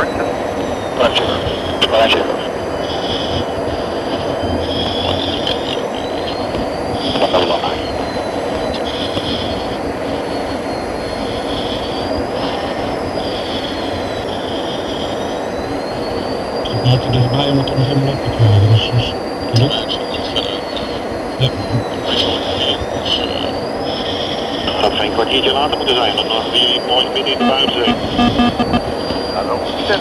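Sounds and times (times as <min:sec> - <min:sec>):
high wavering whine: 0:00.0 - 0:30.0
jet engine and airflow hum: 0:00.0 - 0:30.0.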